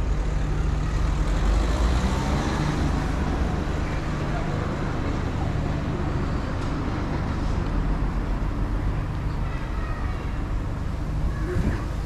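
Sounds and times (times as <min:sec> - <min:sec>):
faint voices of passers-by: 0:00.0 - 0:12.0
road traffic rumble: 0:00.0 - 0:12.0.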